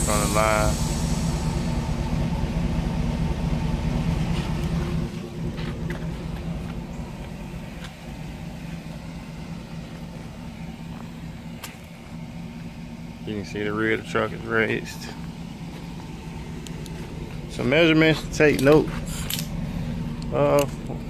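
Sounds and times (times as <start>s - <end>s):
air suspension mechanical hum: 0.0s - 21.0s.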